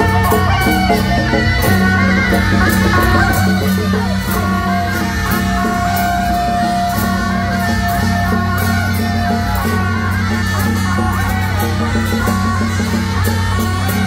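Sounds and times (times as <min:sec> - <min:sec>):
cymbal crashes: 0:00.0 - 0:14.0
double-reed horns playing tune: 0:00.0 - 0:14.0.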